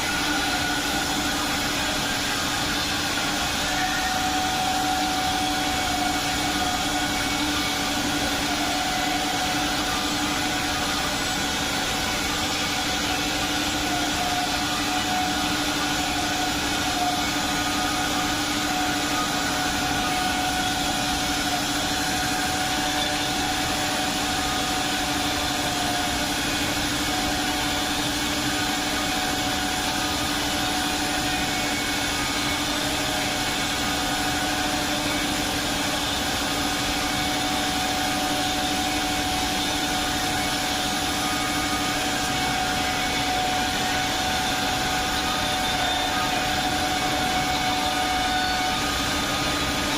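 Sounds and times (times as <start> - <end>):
cnc milling machine running: 0.0 - 49.9.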